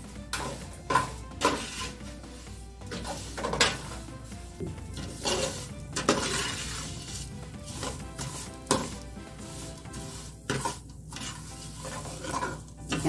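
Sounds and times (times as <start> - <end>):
noodles sizzling in oil: 0.0 - 13.0
metal spoon scraping pot: 0.2 - 2.1, 2.8 - 4.0, 4.9 - 13.0.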